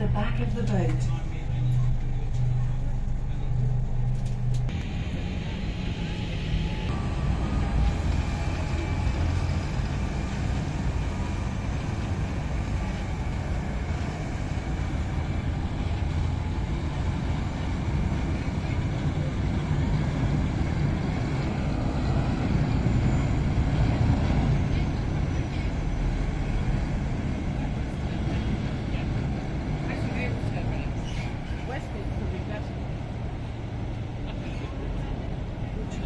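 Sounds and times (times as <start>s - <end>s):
boat engines droning: 0.0s - 36.0s.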